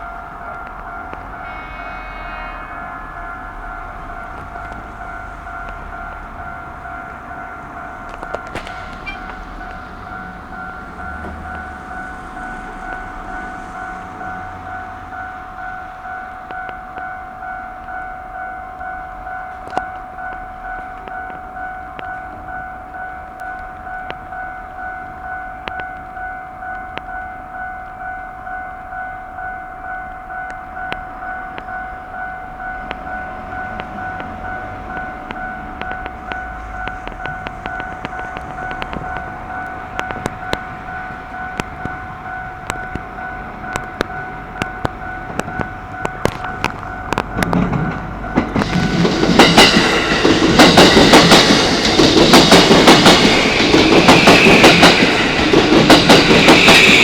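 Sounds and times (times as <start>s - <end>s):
level crossing alarm ringing: 0.0s - 57.0s.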